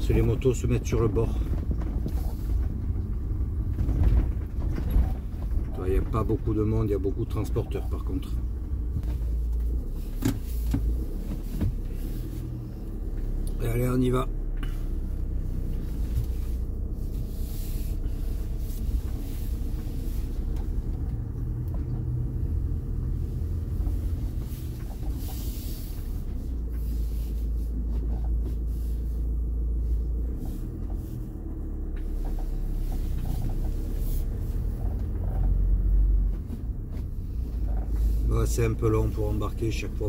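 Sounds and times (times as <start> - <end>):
engine and road rumble: 0.0 - 40.0.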